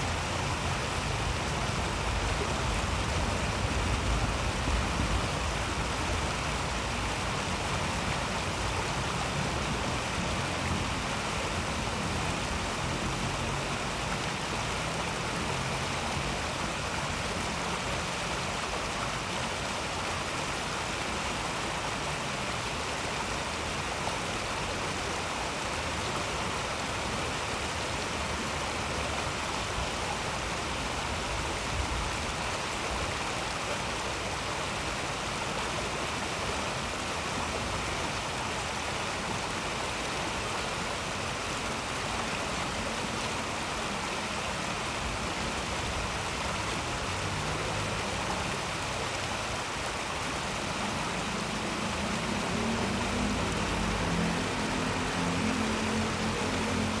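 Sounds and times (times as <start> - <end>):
stream water rushing over rocks: 0.0 - 57.0.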